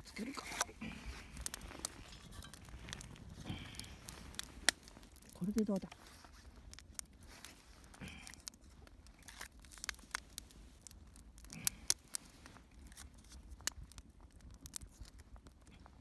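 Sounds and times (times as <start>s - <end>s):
kindling fire crackling: 0.0s - 16.0s
sharp snaps of fire: 0.0s - 16.0s.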